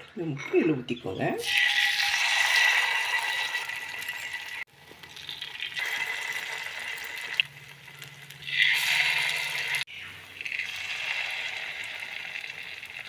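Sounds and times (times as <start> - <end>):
batter sizzling in hot oil: 1.4 - 13.0.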